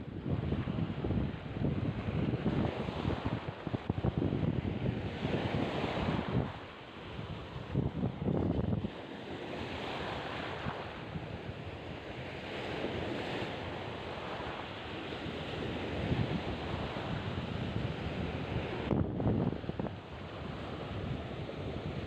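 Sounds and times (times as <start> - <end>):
waves washing on beach: 0.0 - 22.0
wind buffeting microphone: 0.0 - 22.0.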